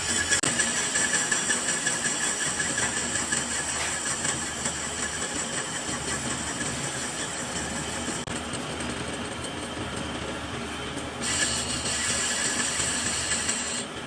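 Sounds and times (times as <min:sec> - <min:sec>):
metal lathe running: 0:00.0 - 0:14.0.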